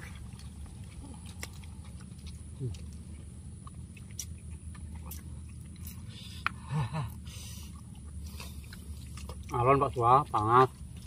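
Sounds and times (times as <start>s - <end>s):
chewing and sucking: 0.0s - 11.0s
steady low hum: 0.0s - 11.0s.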